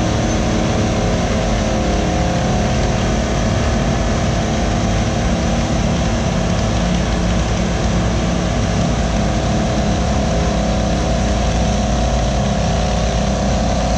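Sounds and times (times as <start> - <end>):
diesel engines running under load: 0.0 - 13.9.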